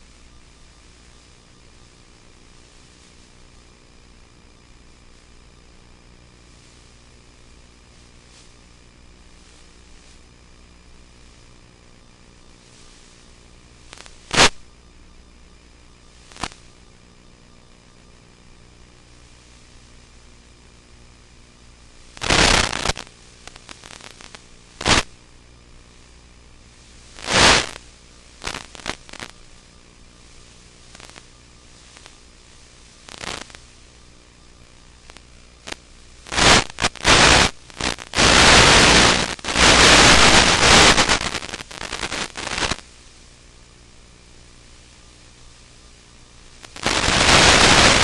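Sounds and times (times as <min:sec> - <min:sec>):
faint steady hum: 0:00.0 - 0:48.0
radio static hiss and crackle: 0:00.0 - 0:48.0.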